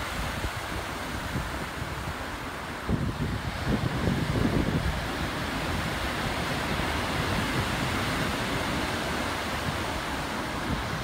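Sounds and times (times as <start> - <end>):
surf breaking on rocky beach: 0.0 - 11.0
wind buffeting microphone: 0.0 - 11.0.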